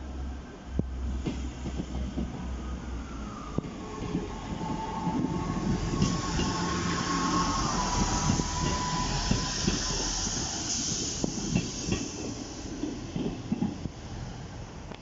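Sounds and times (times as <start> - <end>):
diesel train engine rumbling: 0.0 - 15.0.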